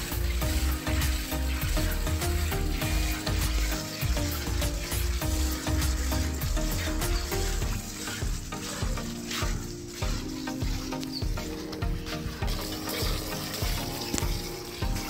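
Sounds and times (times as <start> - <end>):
background music with steady beat: 0.0 - 15.0
milk squirting into steel pail: 0.0 - 15.0.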